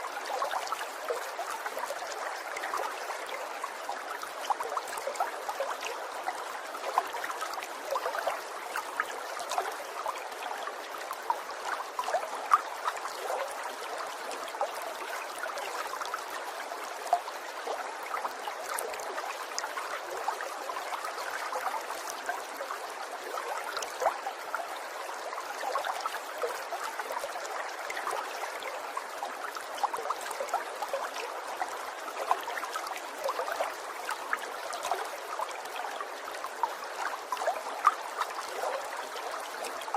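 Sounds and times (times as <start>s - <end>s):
water trickling over stones: 0.0s - 39.9s.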